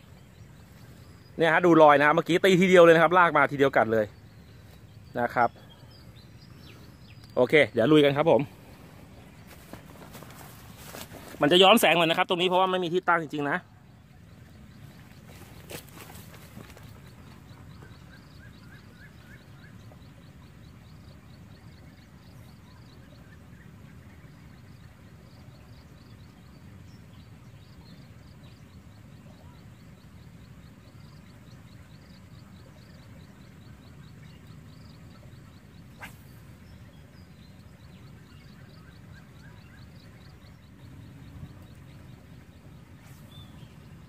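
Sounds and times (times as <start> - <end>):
lower chirps: 0.0 - 44.0.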